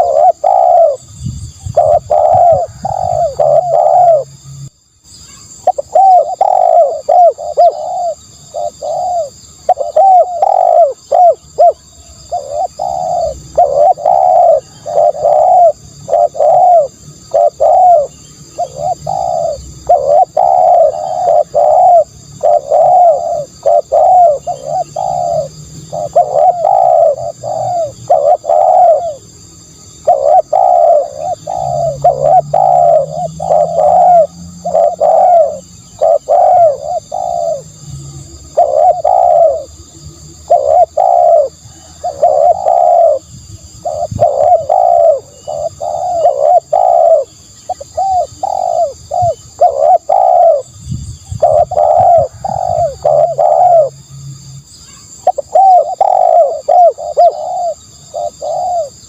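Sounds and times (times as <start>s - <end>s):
dove cooing: 0.0s - 4.4s, 5.3s - 54.0s, 54.9s - 59.0s
faint high-pitched hiss: 0.0s - 59.0s.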